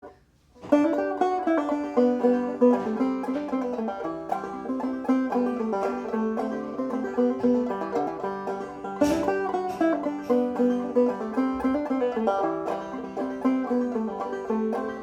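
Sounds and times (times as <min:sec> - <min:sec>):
banjo tune: 0:00.0 - 0:15.0.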